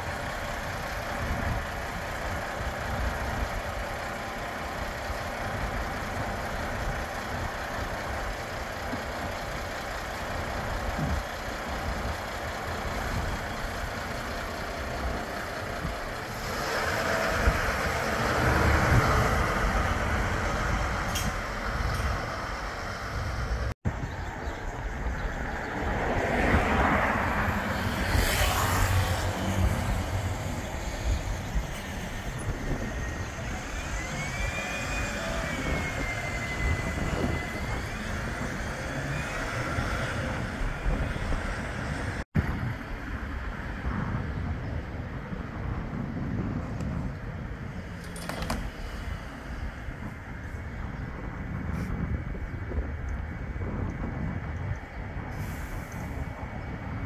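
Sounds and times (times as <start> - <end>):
bus engine pulling away: 0.0 - 57.0
passing traffic: 0.0 - 57.0.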